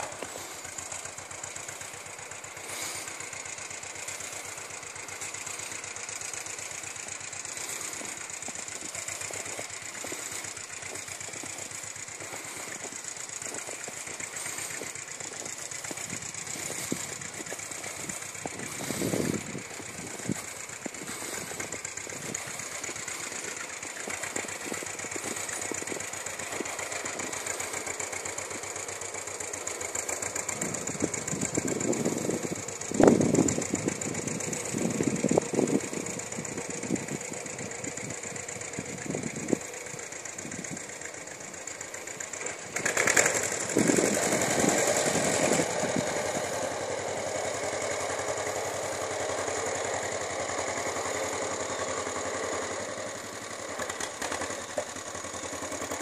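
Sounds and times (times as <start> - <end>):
distant tractor engine running: 0.0 - 56.0.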